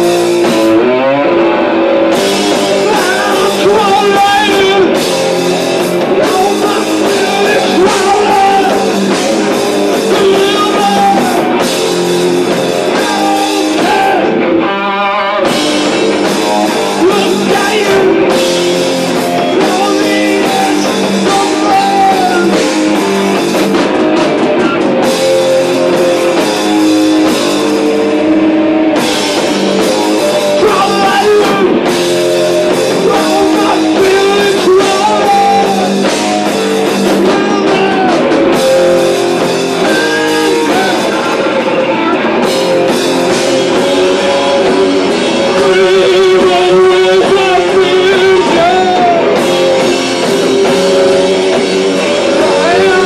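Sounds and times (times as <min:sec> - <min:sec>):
bass guitar: 0:00.0 - 0:53.0
distorted electric guitar: 0:00.0 - 0:53.0
drum kit: 0:00.0 - 0:53.0.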